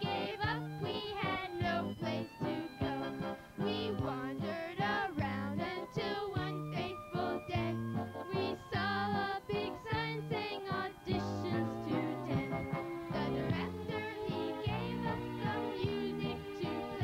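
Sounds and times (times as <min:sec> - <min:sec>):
children singing over instrumental backing: 0:00.0 - 0:17.0.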